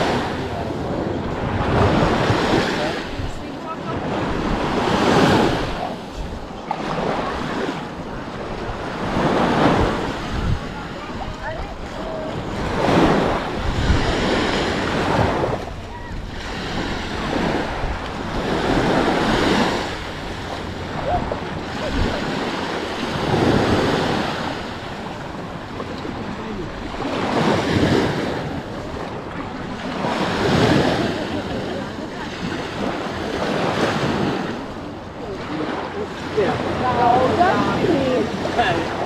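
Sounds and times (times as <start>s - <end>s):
small waves breaking on sand: 0.0s - 39.0s
wind rumble on microphone: 0.0s - 39.0s.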